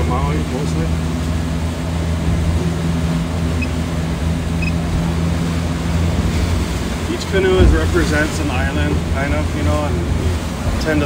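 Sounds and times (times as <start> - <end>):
boat engine droning: 0.0 - 11.0
wind: 0.0 - 11.0.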